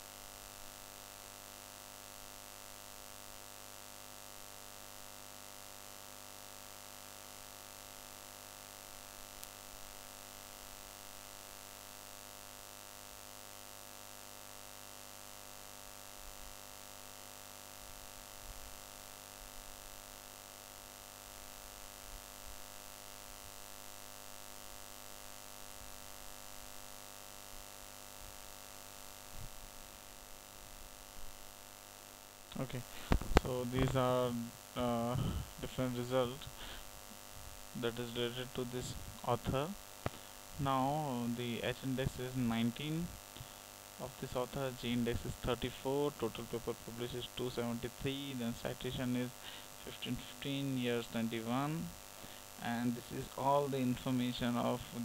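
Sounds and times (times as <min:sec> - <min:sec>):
faint electrical hum with hiss: 0:00.0 - 0:55.0.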